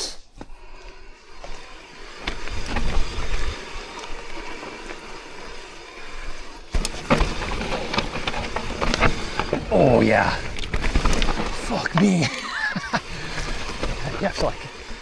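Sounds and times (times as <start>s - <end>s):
bike clicks and rattles: 0.4s - 15.0s.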